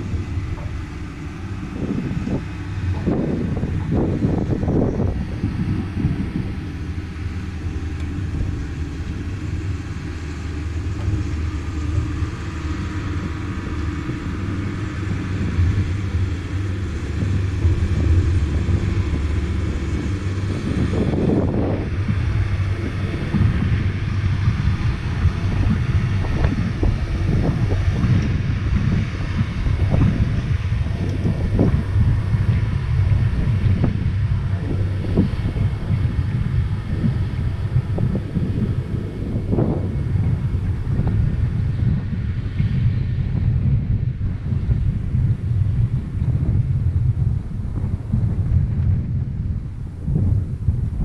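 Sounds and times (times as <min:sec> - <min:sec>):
airplane propeller engine droning: 0:00.0 - 0:51.0
wind rumbling over microphone: 0:00.0 - 0:51.0.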